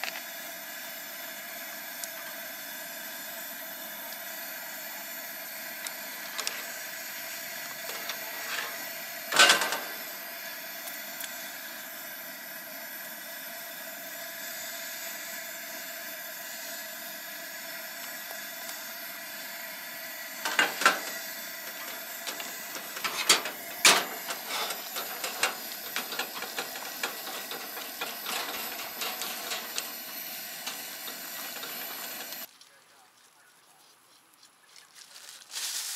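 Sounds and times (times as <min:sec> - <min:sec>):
steady hiss: 0:00.0 - 0:33.4, 0:35.2 - 0:35.9.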